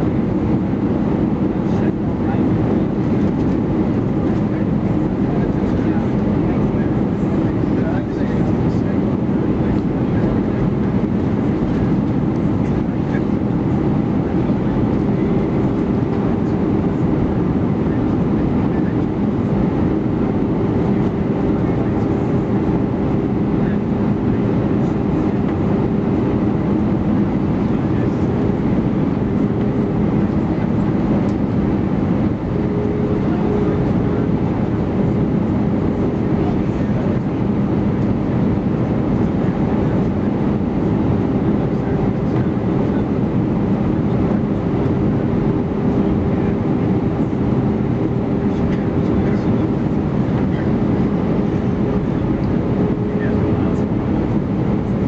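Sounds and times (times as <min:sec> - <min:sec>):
airplane cabin engine rumble: 0:00.0 - 0:55.0
steady low hum: 0:00.0 - 0:55.0.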